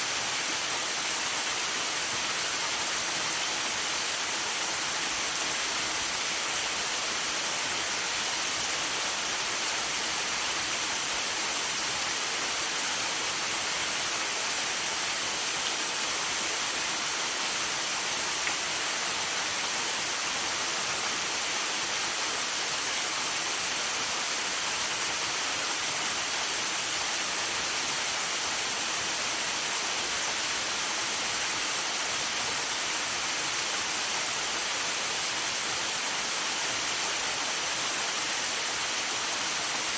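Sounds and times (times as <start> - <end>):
rain and sleet falling: 0.0 - 39.9.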